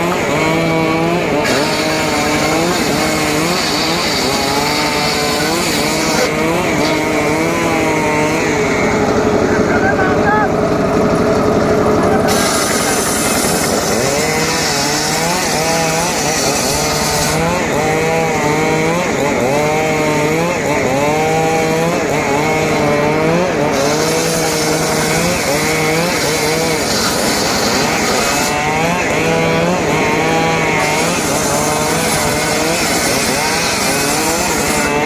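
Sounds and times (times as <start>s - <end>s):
engine-driven saw cutting wood: 0.0s - 35.0s.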